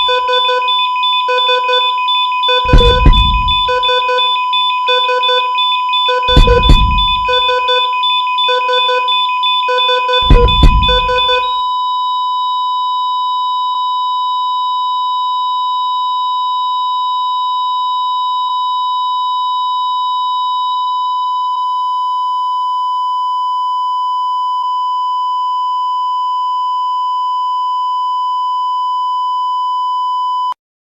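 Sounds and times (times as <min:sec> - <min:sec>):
heart monitor continuous beep: 0:00.0 - 0:30.5.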